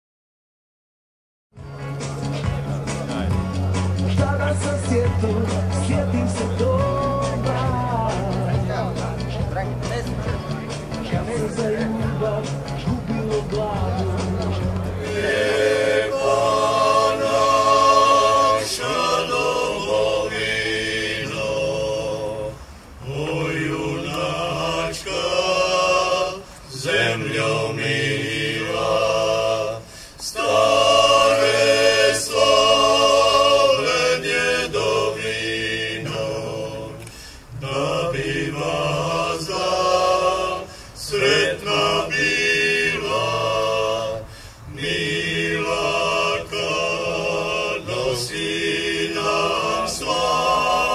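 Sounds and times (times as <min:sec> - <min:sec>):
choir singing a cappella: 0:04.0 - 0:08.8, 0:11.2 - 0:50.9.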